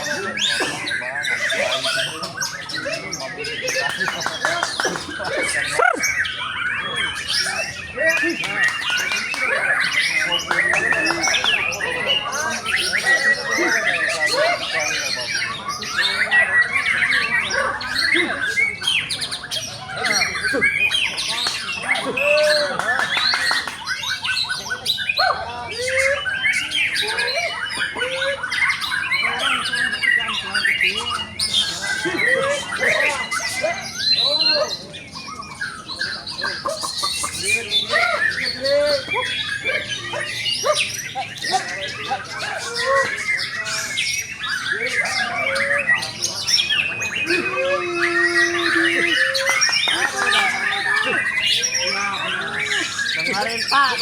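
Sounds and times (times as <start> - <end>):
birds singing: 0.0 - 54.0
songbirds whistling and warbling: 0.0 - 54.0.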